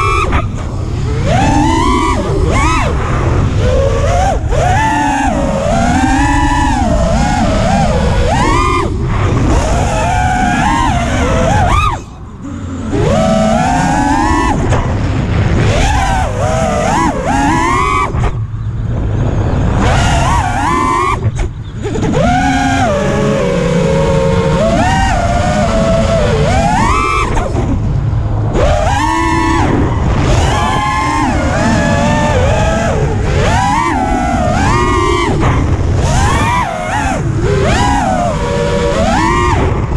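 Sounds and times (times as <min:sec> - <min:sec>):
drone motor whine: 0:00.0 - 0:39.9
wind rumble on microphone: 0:00.0 - 0:39.9.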